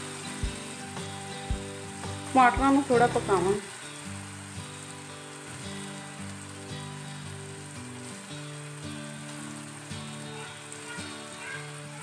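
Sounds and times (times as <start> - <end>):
soft background music: 0.0 - 12.0
vegetables sizzling in oil: 0.0 - 12.0.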